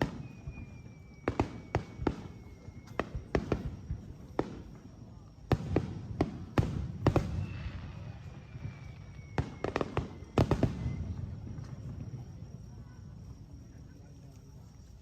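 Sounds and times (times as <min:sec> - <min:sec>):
fireworks booming: 0:00.0 - 0:12.8.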